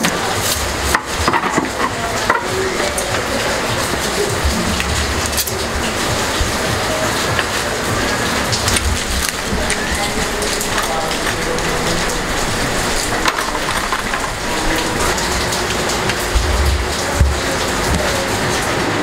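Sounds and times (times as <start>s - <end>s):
plastic packaging crackling: 0.0s - 18.6s
steady rain falling: 0.0s - 19.0s.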